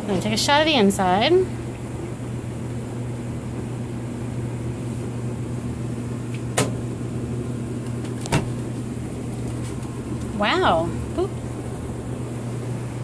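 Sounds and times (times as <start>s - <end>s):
washing machine electrical hum: 0.0s - 13.0s.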